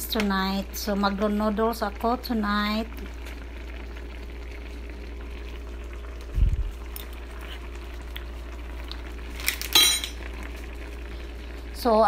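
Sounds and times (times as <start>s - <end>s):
broth simmering in a pan: 0.0s - 12.0s
steady low hum: 0.0s - 12.0s.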